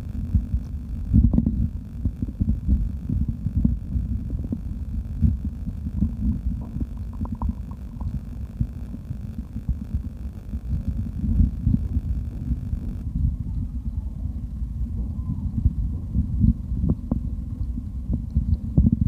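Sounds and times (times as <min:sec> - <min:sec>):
stomach growling: 0:00.1 - 0:19.0.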